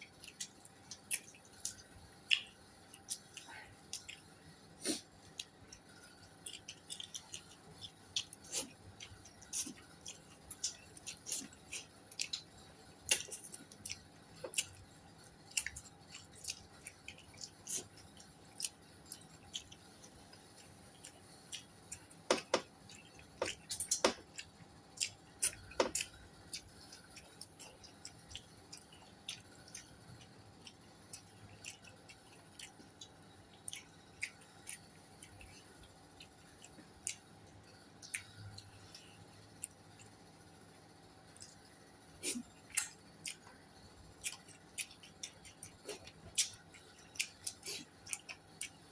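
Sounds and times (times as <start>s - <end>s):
person chewing and eating: 0.0s - 48.9s.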